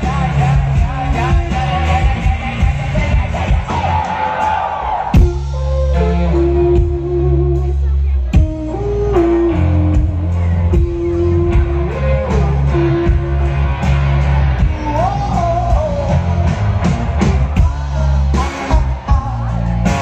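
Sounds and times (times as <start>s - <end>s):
person singing: 0.0s - 4.1s, 5.2s - 13.7s, 14.5s - 16.7s, 17.5s - 20.0s
electric guitar: 0.0s - 4.5s, 5.1s - 20.0s
bass guitar: 0.0s - 20.0s
drum kit: 0.0s - 20.0s.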